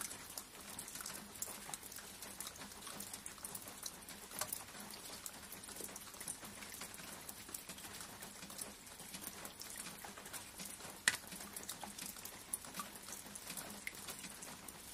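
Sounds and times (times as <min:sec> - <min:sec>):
rain drops pattering: 0:00.0 - 0:14.9.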